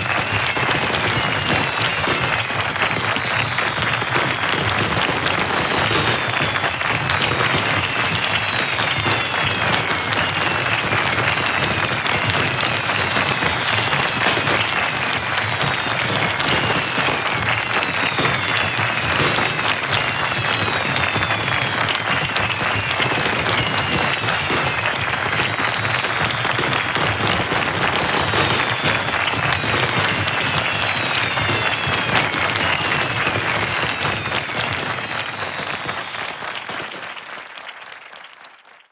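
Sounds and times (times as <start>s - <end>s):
falling firework whistles: 0.0s - 37.4s
fireworks crackling: 0.0s - 37.4s
crowd applauding: 0.0s - 38.9s.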